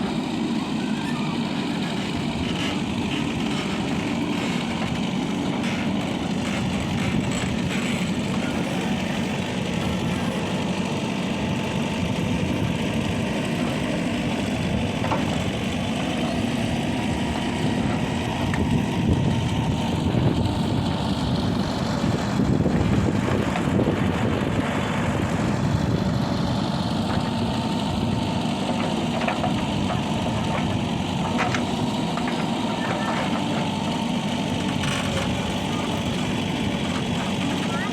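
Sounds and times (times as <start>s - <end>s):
diesel machinery engine running: 0.0s - 37.9s.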